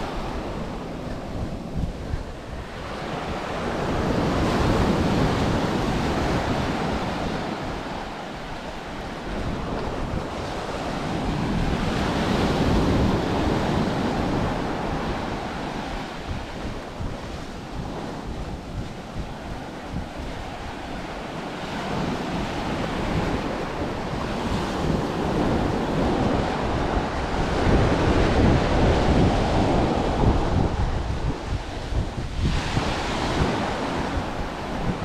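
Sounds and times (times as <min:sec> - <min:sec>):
ocean surf breaking: 0:00.0 - 0:35.0
wind rumble on microphone: 0:00.0 - 0:35.0.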